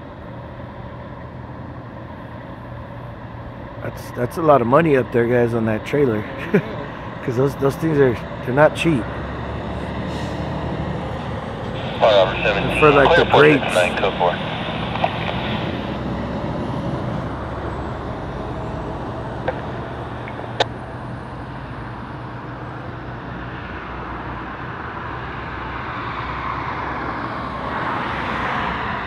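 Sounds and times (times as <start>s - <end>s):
truck passing: 0.0s - 29.0s
car passing: 3.6s - 29.0s.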